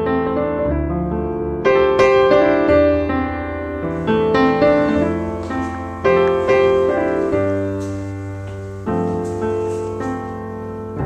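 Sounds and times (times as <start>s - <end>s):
piano chords ringing: 0.0s - 11.0s.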